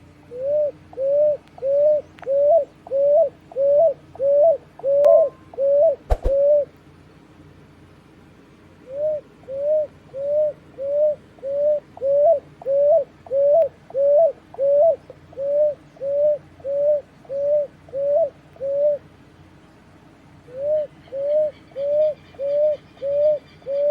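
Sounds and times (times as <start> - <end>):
dove cooing: 0.0 - 6.7, 8.8 - 19.2, 20.4 - 23.9.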